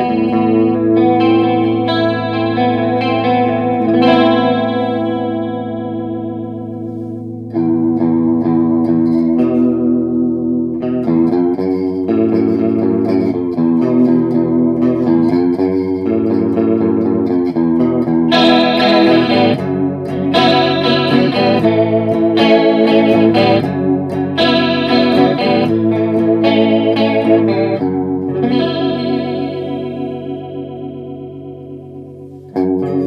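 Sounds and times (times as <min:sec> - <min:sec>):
electric guitar chords with chorus: 0:00.0 - 0:33.0.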